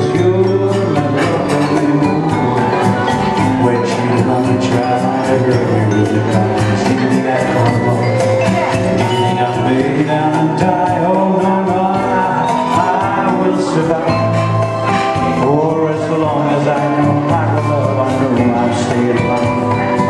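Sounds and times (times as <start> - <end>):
electronic keyboard: 0.0 - 20.0
man singing into a microphone: 0.0 - 20.0.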